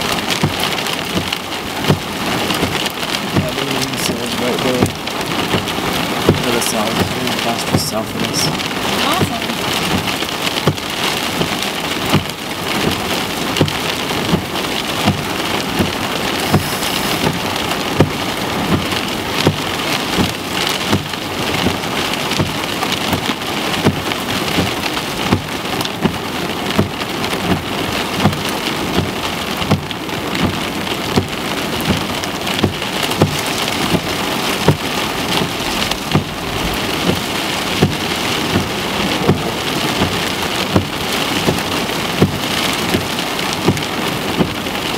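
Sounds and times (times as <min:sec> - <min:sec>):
rain drumming on a car roof: 0:00.0 - 0:44.9.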